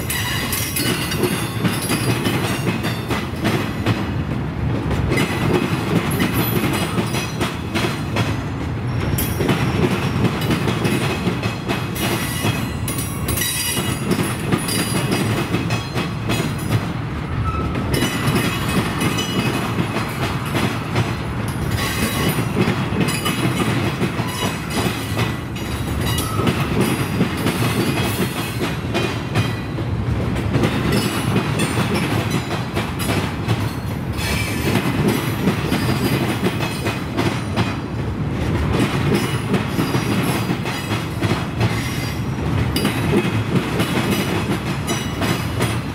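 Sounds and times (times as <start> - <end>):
train wheels clacking over rail joints: 0.0 - 45.9.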